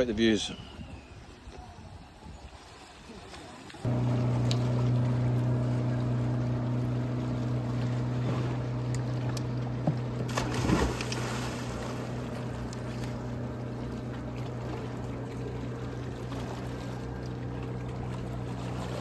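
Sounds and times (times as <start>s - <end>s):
motorboat engine droning: 3.7s - 19.0s.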